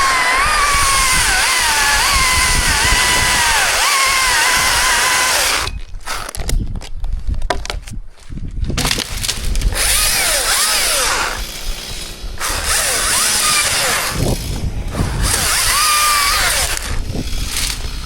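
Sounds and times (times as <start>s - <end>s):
chainsaw cutting wood: 0.0s - 6.5s, 8.8s - 18.0s.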